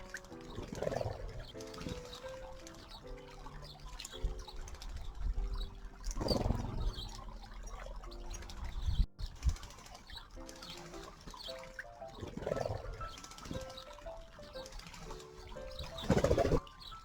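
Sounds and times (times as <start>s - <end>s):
bird chirps: 0.0s - 9.1s, 9.8s - 17.0s
birds splashing in water: 0.0s - 17.0s
soft background music: 0.0s - 17.0s.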